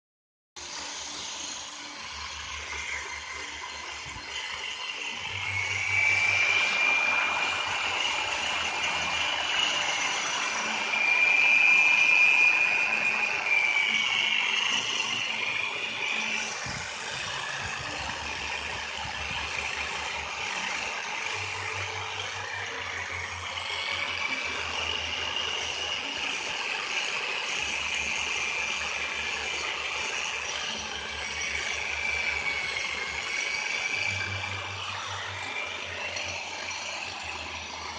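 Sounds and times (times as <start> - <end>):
rotary grinder whining: 0.6 - 37.9.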